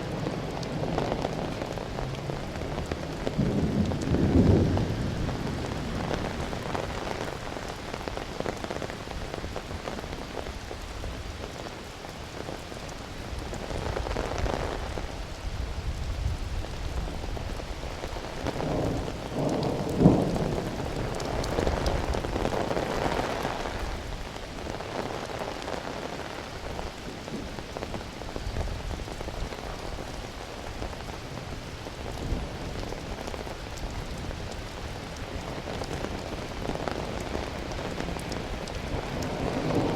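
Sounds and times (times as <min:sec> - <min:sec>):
thunder rumbling: 0:00.0 - 0:10.0, 0:13.6 - 0:39.9
steady rain falling: 0:00.0 - 0:39.9.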